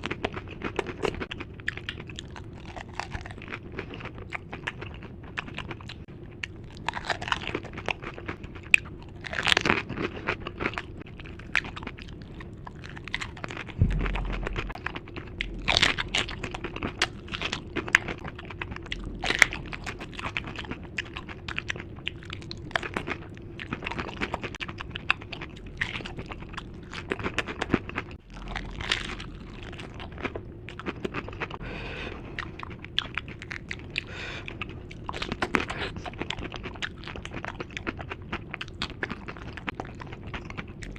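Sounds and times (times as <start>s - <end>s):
crunching and chewing food: 0.0s - 40.9s.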